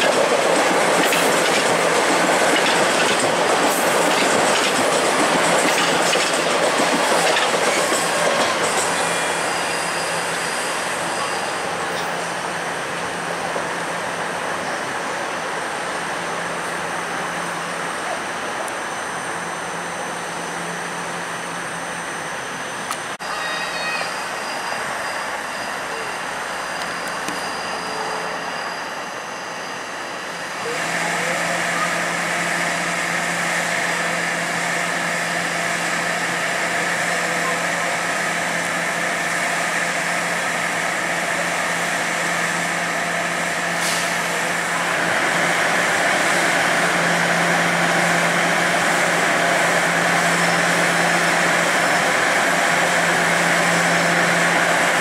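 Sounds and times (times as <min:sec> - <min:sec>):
subway train electric hum: 0:00.0 - 0:55.0.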